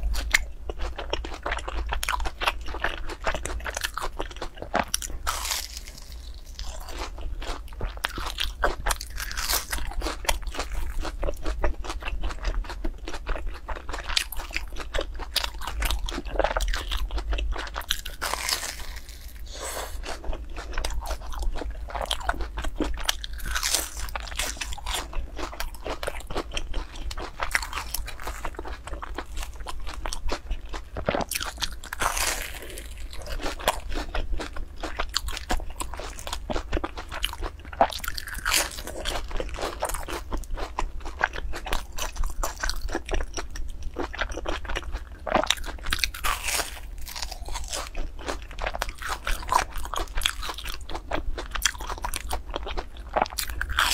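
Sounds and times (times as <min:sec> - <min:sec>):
crunching and chewing fried food: 0:00.0 - 0:53.9.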